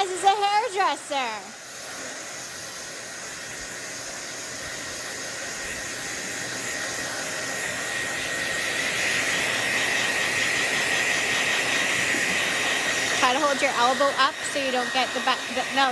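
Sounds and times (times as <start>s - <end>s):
hair dryer blowing: 0.0s - 15.9s.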